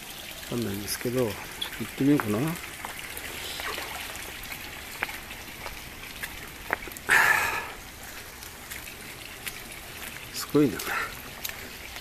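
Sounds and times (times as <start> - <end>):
rain falling: 0.0 - 12.0
rustle: 0.0 - 12.0.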